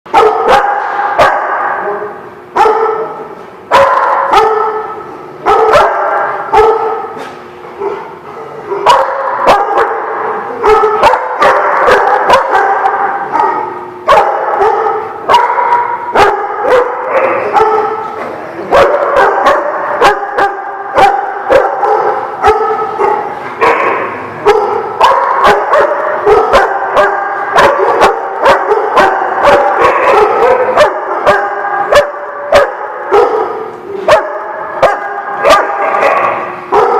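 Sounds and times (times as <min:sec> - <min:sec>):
dogs barking and yipping: 0:00.1 - 0:02.0, 0:02.6 - 0:07.2, 0:07.8 - 0:36.9.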